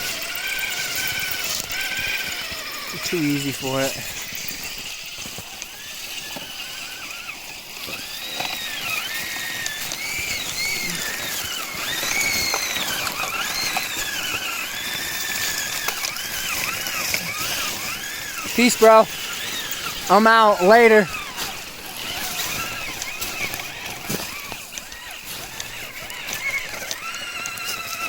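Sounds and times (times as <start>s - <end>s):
electric motor and gears whining: 0.0s - 28.0s.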